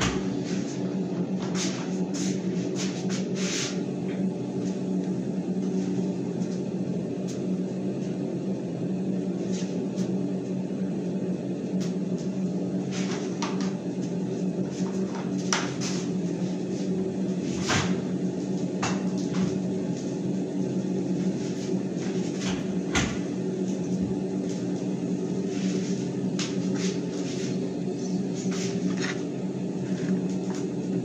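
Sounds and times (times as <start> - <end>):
exhaust fan humming: 0.0 - 31.0.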